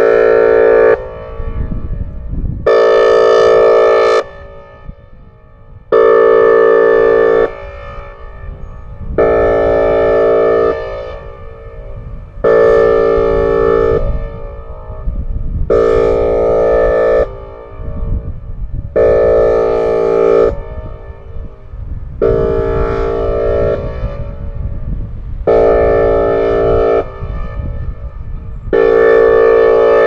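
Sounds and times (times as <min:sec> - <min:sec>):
warning siren horn blasts: 0:00.0 - 0:30.0.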